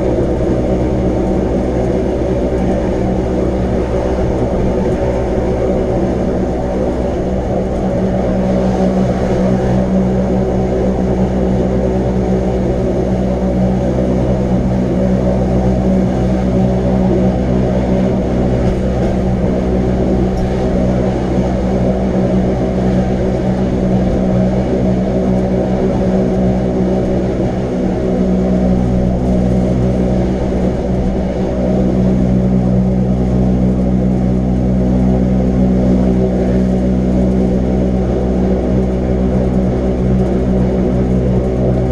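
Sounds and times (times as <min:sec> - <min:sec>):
electric train humming: 0:00.0 - 0:41.9.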